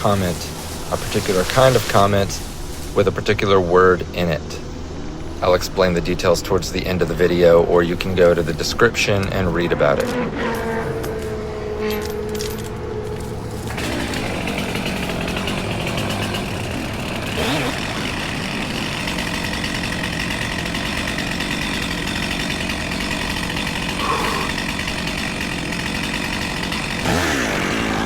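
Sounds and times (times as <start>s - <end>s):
small engine chugging: 0.0s - 28.0s.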